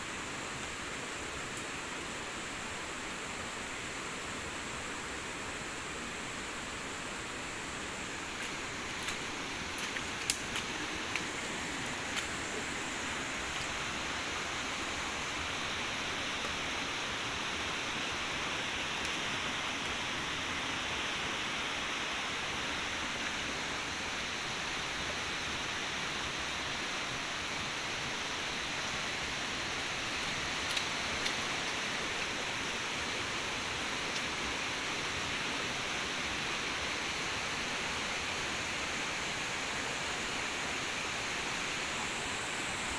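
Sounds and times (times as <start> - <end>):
heavy rain hissing: 0.0 - 42.9.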